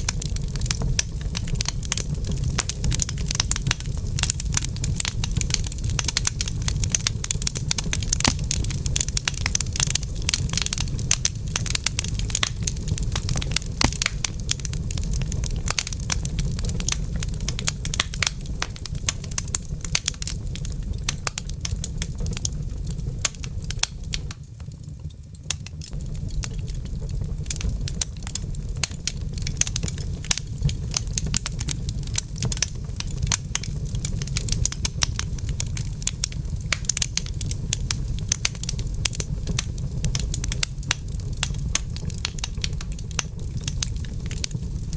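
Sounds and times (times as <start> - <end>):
fire pops and snaps: 0.0 - 44.9
low fire rumble: 0.0 - 44.9
wood fire crackling: 0.0 - 44.9.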